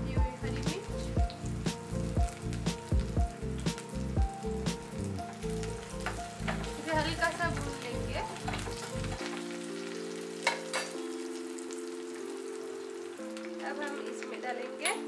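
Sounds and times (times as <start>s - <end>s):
background music: 0.0s - 15.0s
garlic sizzling in hot oil: 0.0s - 15.0s.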